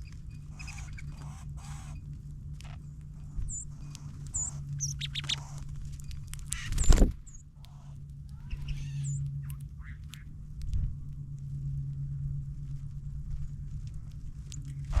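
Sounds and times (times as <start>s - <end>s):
songbird chip notes: 0.0s - 12.1s
birds pecking and cracking seed: 0.0s - 15.0s
steady low hum: 0.0s - 15.0s.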